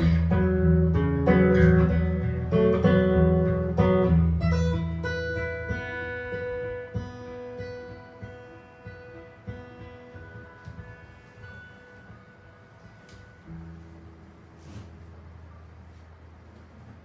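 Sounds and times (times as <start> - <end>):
jazz guitar chords: 0.0 - 17.0.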